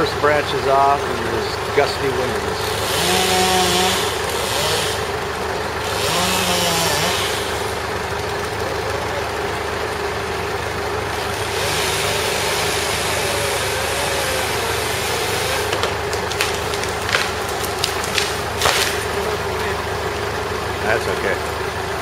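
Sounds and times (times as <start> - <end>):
large engine idling: 0.0 - 22.0.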